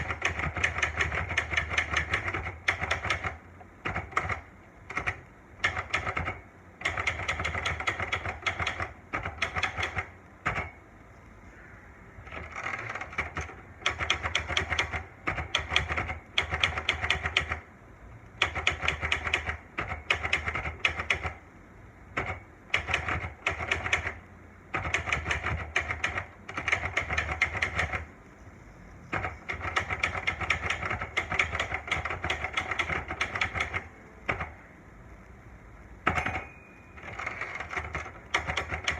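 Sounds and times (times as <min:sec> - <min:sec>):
typewriter keys striking: 0:00.0 - 0:10.8, 0:12.3 - 0:17.6, 0:18.4 - 0:21.4, 0:22.2 - 0:28.1, 0:29.1 - 0:34.6, 0:36.0 - 0:38.9.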